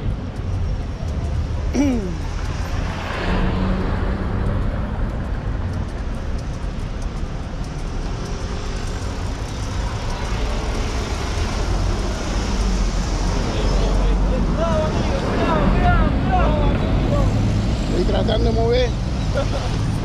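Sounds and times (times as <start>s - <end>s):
road traffic rush: 0.0s - 20.0s.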